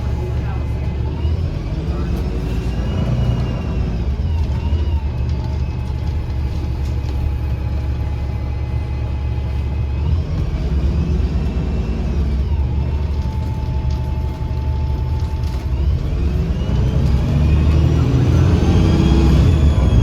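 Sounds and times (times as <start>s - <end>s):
bus engine drone: 0.0s - 20.0s
high whining tone: 0.0s - 20.0s.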